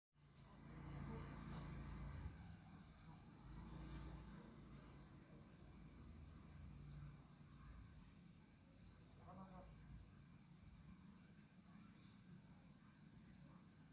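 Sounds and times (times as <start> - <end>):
high-pitched insect trill: 0.2 - 13.9.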